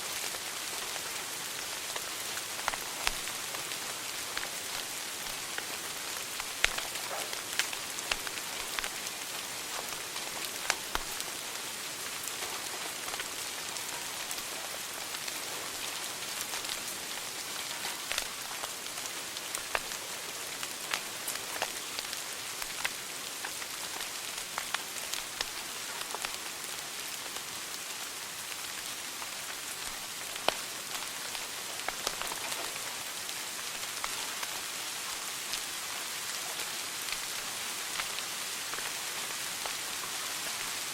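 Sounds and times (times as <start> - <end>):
fire crackles and pops: 0.0 - 40.9
wood fire hissing: 0.0 - 40.9.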